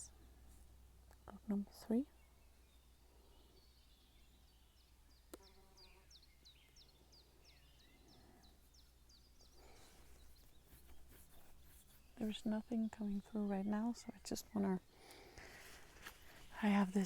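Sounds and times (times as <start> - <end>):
faint bird song: 0.0 - 17.0.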